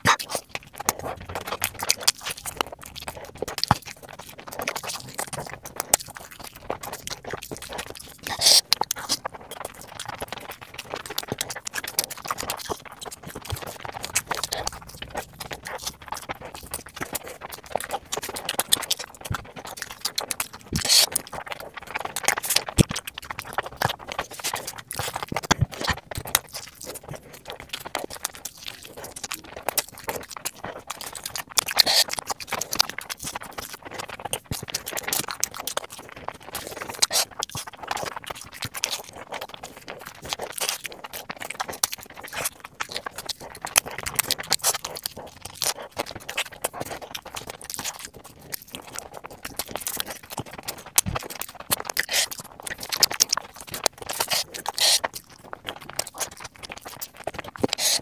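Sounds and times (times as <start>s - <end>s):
mouth clicks: 0.0s - 58.0s
wet chewing and lip smacking: 0.0s - 58.0s.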